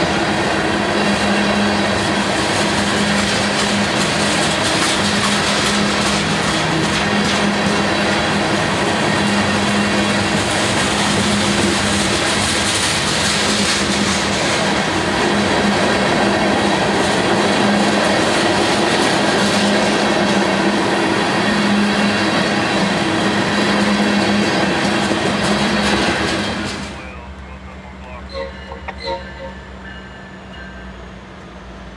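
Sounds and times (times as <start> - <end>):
steel wheels rushing on rail: 0.0 - 31.9.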